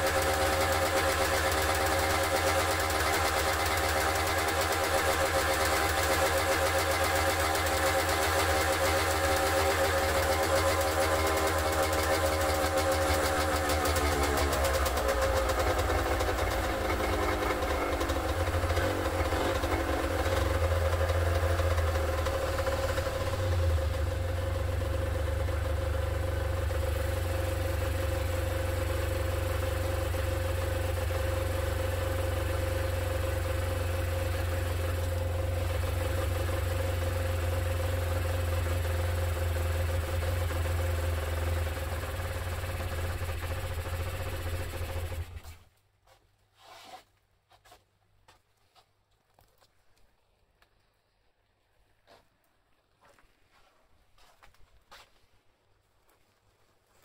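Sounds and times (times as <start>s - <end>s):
motorcycle engine idling: 0.0s - 45.6s.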